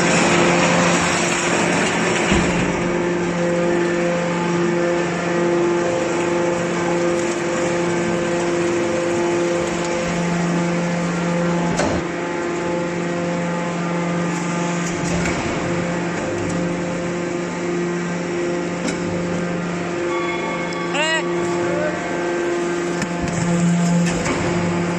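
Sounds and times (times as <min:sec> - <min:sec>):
hydraulic baler motor hum: 0:00.0 - 0:24.9.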